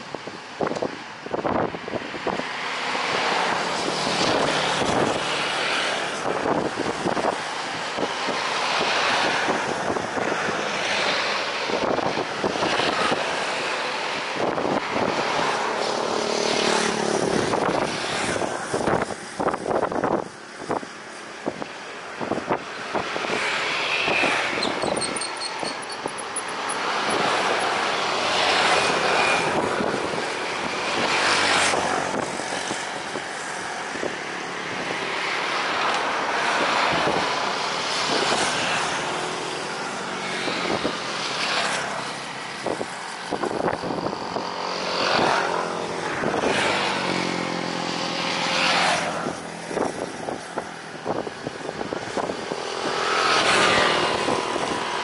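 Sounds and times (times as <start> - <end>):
cars passing: 0.0 - 55.0
motorcycles passing: 0.0 - 55.0.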